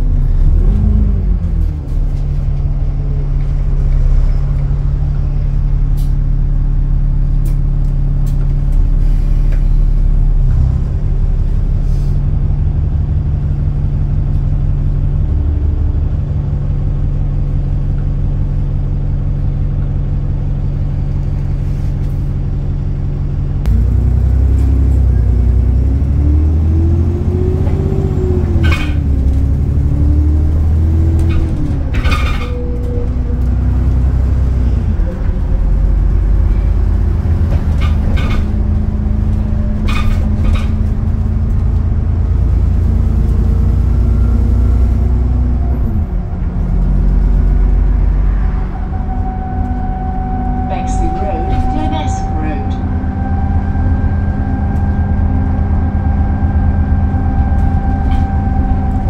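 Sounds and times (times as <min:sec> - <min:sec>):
bus accelerating and changing gear: 0:00.0 - 0:59.0
bus diesel engine droning: 0:00.0 - 0:59.0.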